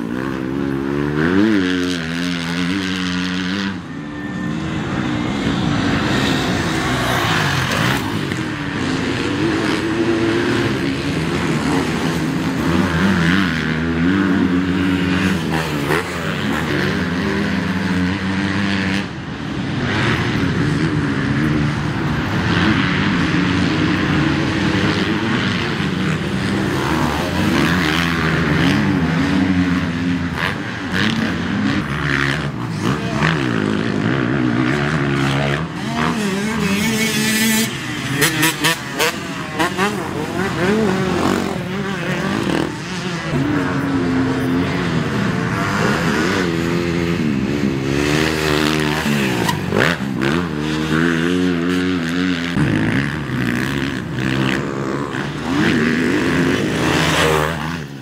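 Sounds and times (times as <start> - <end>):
motorcycle engines racing: 0.0 - 58.0.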